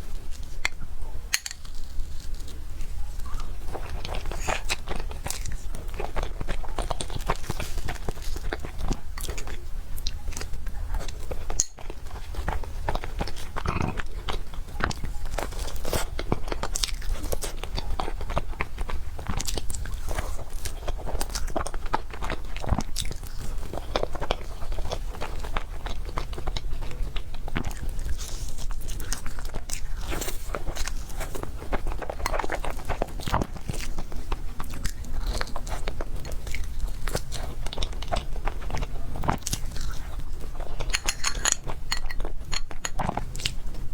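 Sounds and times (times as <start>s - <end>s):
moist chewing and biting: 1.6s - 43.9s.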